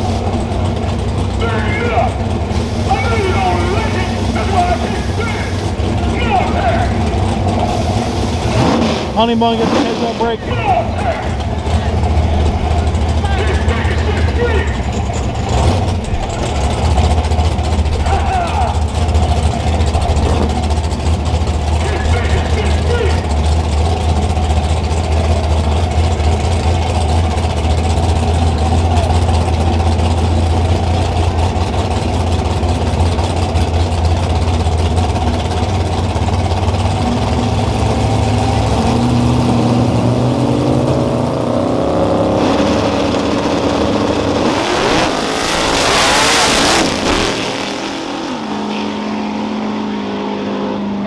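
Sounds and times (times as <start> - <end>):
cars launching at full throttle: 0.0 - 51.0
race car engines revving: 0.0 - 51.0.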